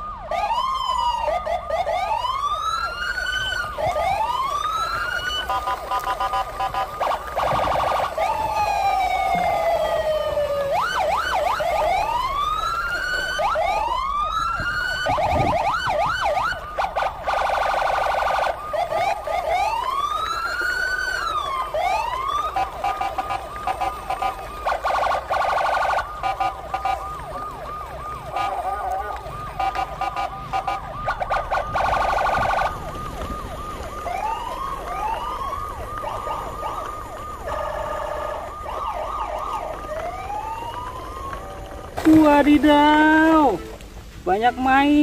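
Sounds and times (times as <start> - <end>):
electronic siren wails: 0.0 - 45.0
long falling siren tone: 0.0 - 45.0
rapid warbling siren pulses: 0.0 - 45.0.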